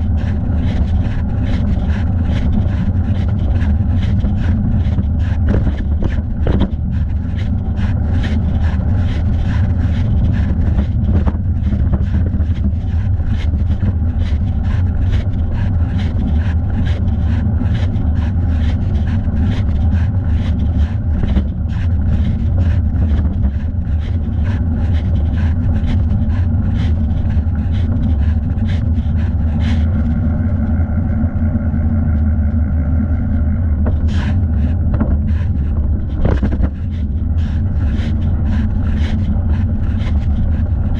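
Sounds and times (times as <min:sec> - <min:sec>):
road rumble: 0:00.0 - 0:40.9
steady higher whir: 0:00.0 - 0:40.9
wind: 0:00.0 - 0:40.9.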